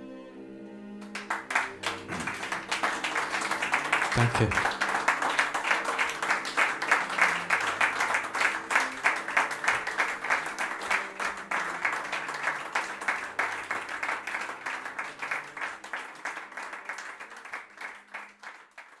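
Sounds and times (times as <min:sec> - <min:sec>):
audience applauding: 0:01.0 - 0:19.0.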